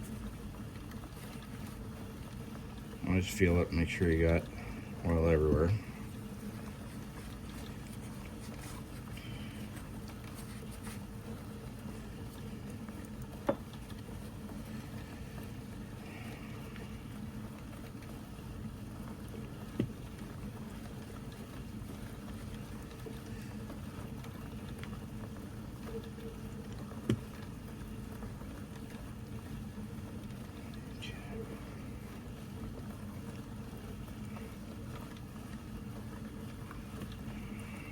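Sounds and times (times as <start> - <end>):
workshop room hum: 0.0 - 37.9.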